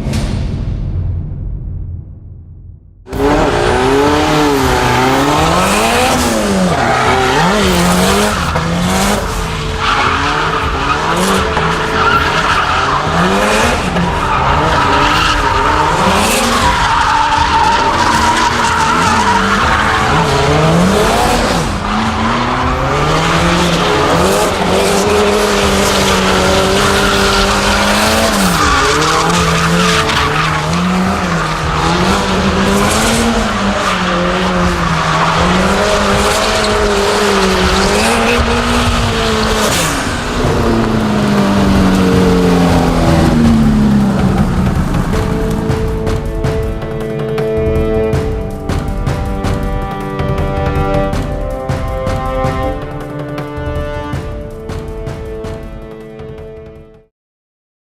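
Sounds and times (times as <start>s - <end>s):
turbocharged engine revving: 3.1s - 53.4s
tyres squealing and skidding: 3.2s - 53.2s.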